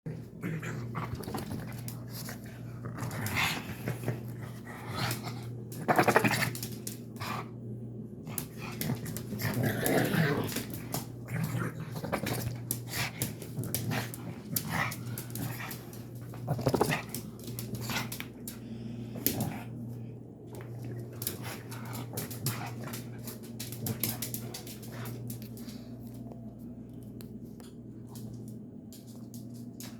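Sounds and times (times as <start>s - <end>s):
steady low hum: 0.1s - 29.9s.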